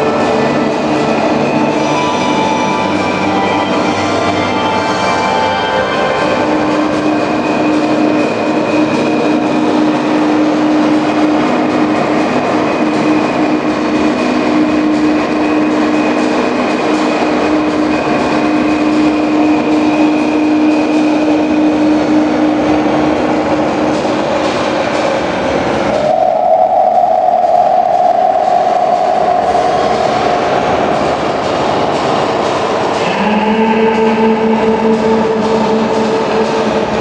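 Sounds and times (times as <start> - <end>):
vehicle engine drone: 0.0 - 37.0.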